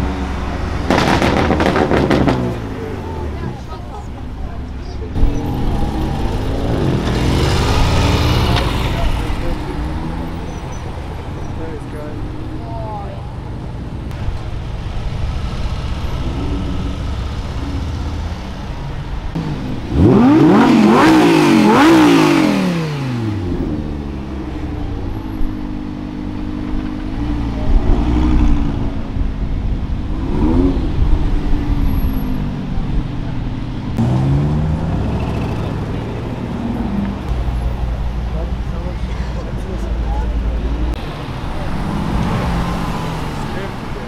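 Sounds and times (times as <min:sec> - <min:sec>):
car engine revving: 0:00.0 - 0:04.0, 0:04.6 - 0:44.0.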